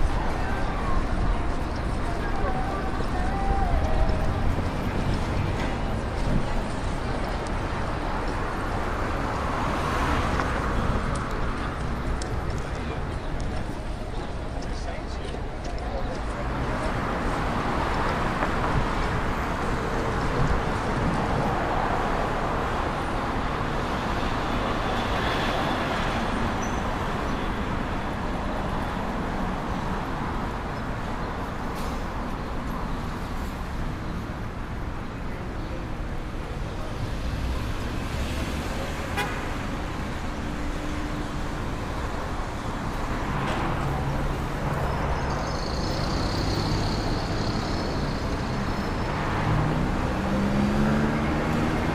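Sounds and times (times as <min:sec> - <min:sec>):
cars passing: 0:00.0 - 0:51.9.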